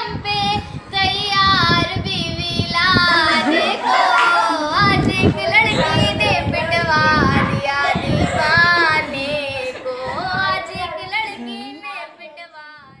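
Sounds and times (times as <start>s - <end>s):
girl singing: 0.0s - 13.0s.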